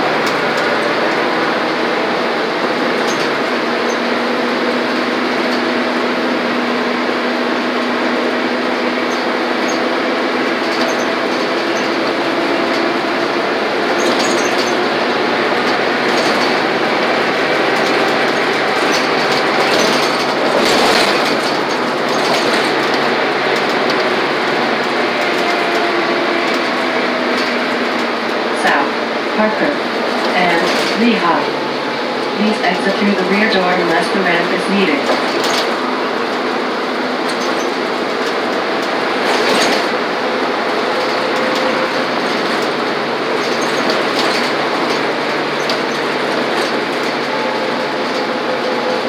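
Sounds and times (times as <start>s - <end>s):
bus engine and road drone: 0.0s - 49.0s.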